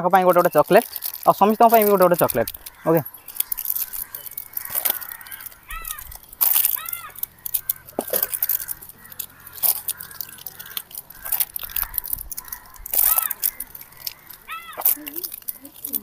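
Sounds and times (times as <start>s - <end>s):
crackling and rustling clicks: 0.0s - 16.0s
crow cawing: 0.4s - 16.0s.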